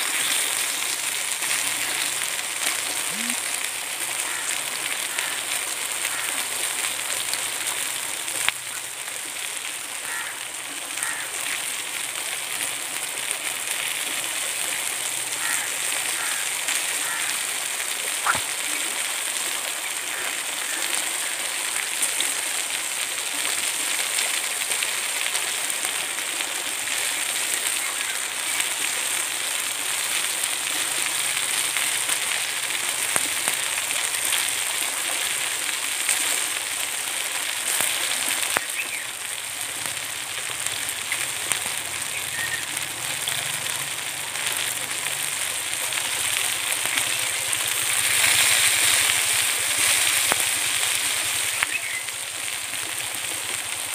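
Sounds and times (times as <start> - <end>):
food sizzling on hot stone: 0.0 - 53.9
wood fire crackles: 0.0 - 53.9.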